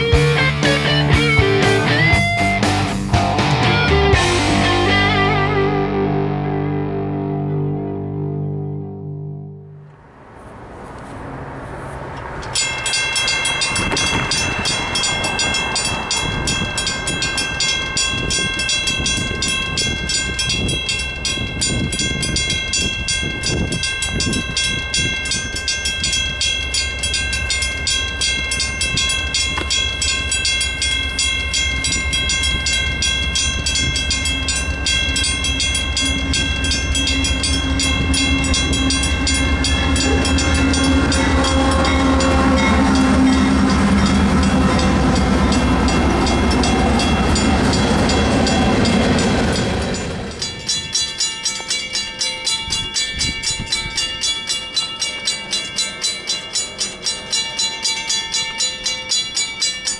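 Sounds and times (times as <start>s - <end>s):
train rumble: 0.0s - 6.0s, 9.8s - 59.9s
railroad crossing bell ringing: 0.0s - 6.3s, 12.2s - 59.9s.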